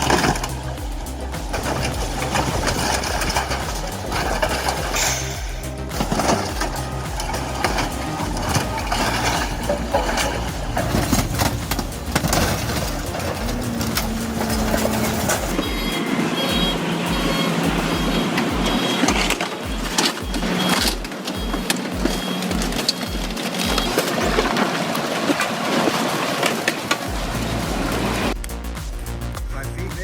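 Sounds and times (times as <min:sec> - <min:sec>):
low pulsing drone: 0:00.0 - 0:24.6, 0:27.1 - 0:30.0
high steady tone: 0:00.0 - 0:25.1
heavy machinery engine: 0:00.0 - 0:28.4
machinery clanking and crunching: 0:00.0 - 0:28.4.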